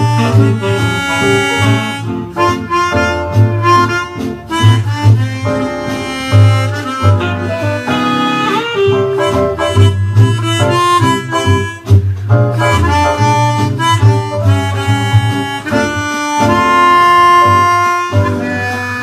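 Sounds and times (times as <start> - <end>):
guitar and bass backing track: 0.0 - 19.0
harmonica melody: 0.0 - 19.0.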